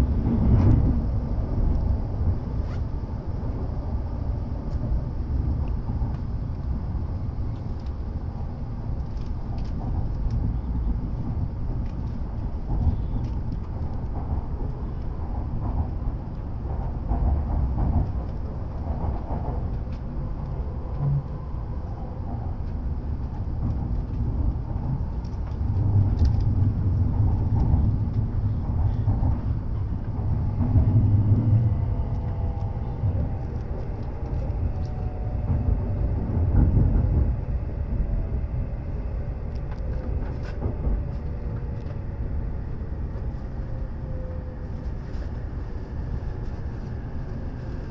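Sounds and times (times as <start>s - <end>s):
train running rumble: 0.0s - 47.9s.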